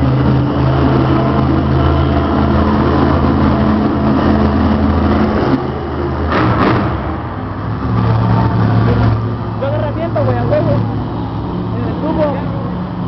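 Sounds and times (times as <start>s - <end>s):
loud truck engine running: 0.0s - 13.0s.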